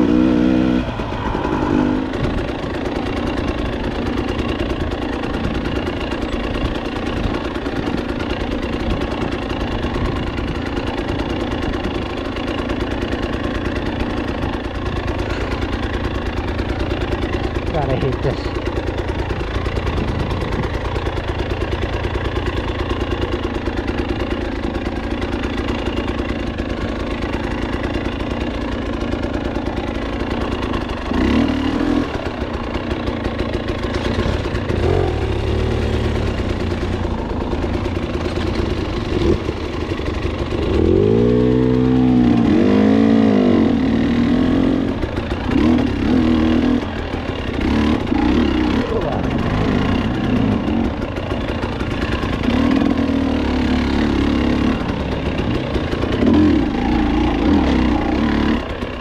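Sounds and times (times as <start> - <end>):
dirt bike engine revving: 0.0 - 21.0, 24.0 - 59.0.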